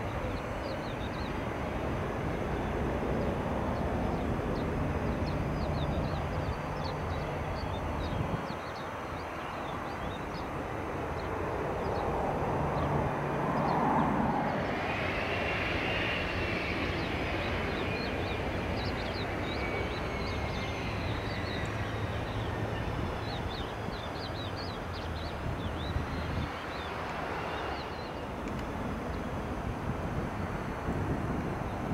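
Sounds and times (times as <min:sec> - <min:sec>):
high jet whine: 0:00.0 - 0:31.9
jet engines rushing: 0:00.0 - 0:31.9.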